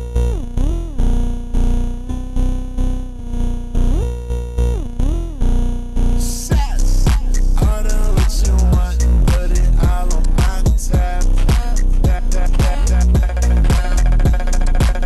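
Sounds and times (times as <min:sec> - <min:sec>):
gliding synthesizer notes: 0:00.0 - 0:15.0
pulsing bass beat: 0:00.0 - 0:15.0.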